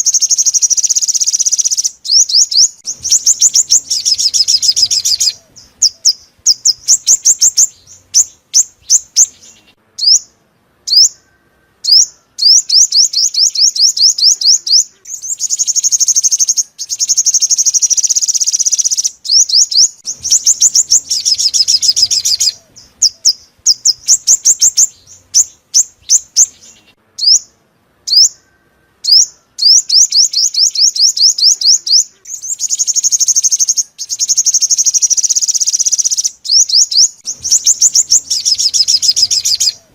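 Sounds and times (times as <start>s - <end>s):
bird song with buzzy trills: 0.0s - 39.9s.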